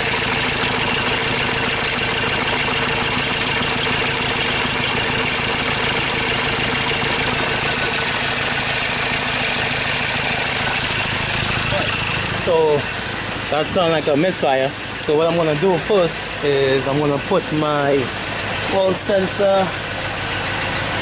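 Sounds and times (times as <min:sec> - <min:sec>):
diesel engine idling roughly: 0:00.0 - 0:21.0.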